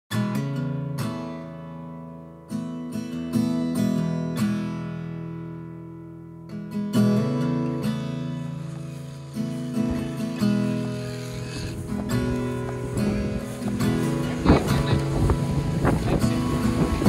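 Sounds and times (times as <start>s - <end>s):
guitar chords strummed: 0.1s - 17.0s.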